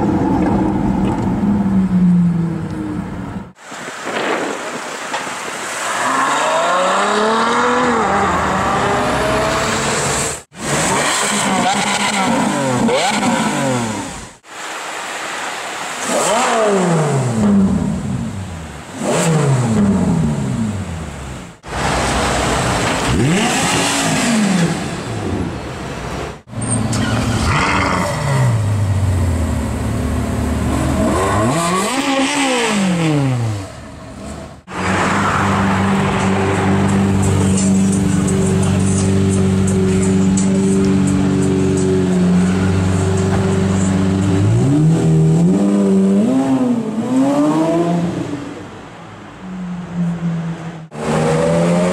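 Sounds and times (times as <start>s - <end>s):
sports car engines revving: 5.8s - 14.5s, 16.0s - 51.9s.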